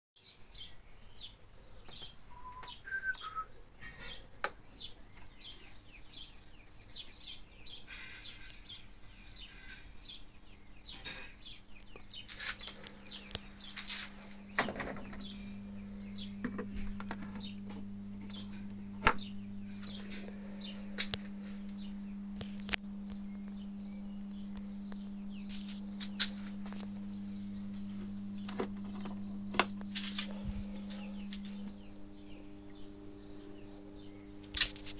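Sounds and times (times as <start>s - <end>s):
low mains hum: 0.2s - 34.9s.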